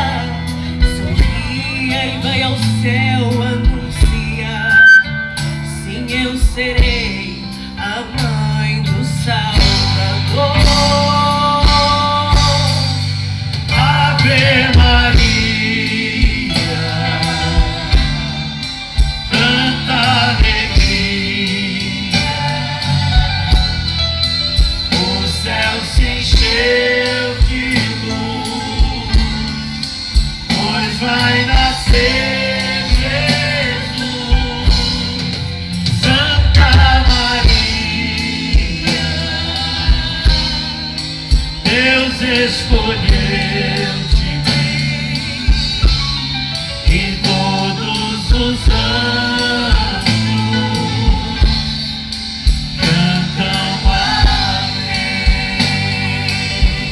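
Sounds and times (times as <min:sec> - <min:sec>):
live band pop ballad: 0:00.0 - 0:56.9
steady drum beat: 0:00.0 - 0:56.9.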